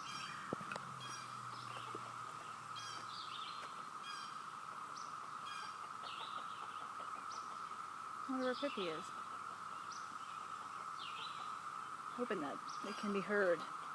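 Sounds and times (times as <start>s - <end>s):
bird chirps: 0.0s - 13.9s
cicadas droning: 0.0s - 13.9s.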